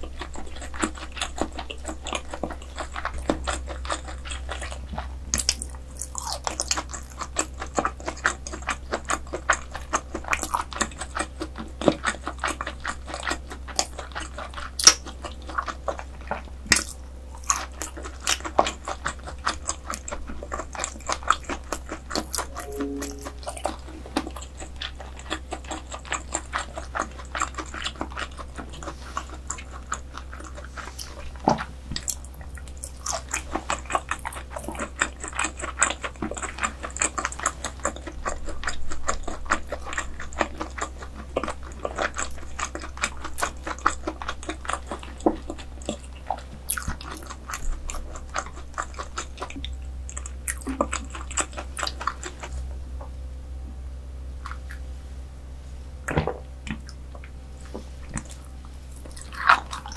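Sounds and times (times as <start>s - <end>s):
wet chewing mouth clicks: 0.0s - 52.6s, 54.4s - 54.9s, 58.0s - 59.9s.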